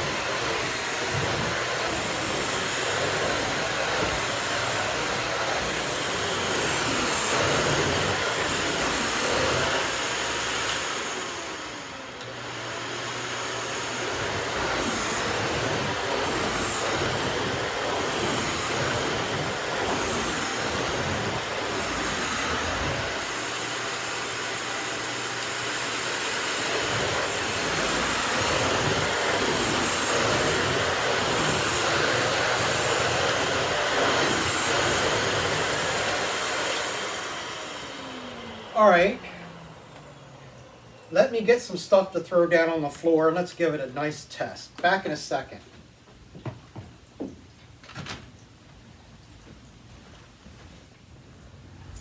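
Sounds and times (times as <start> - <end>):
stick vacuum running on carpet: 0.0 - 45.2.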